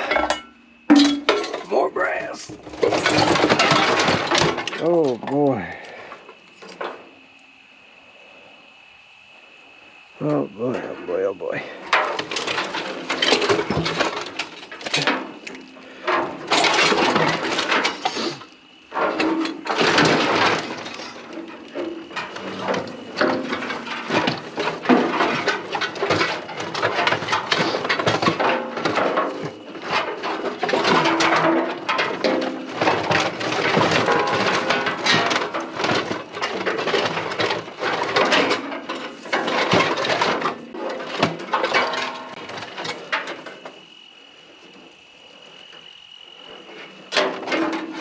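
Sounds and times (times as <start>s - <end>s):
scrap metal clattering: 0.0s - 7.0s, 11.6s - 43.8s, 46.7s - 48.0s.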